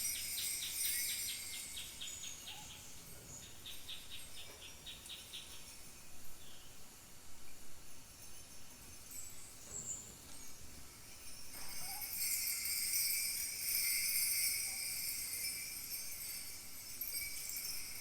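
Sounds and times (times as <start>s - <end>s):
bronze bells jingling: 0.0s - 6.4s, 7.8s - 18.0s.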